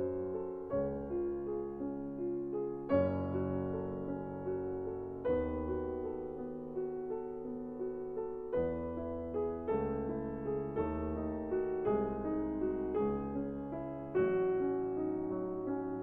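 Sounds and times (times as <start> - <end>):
soft lofi piano music: 0.0 - 16.0.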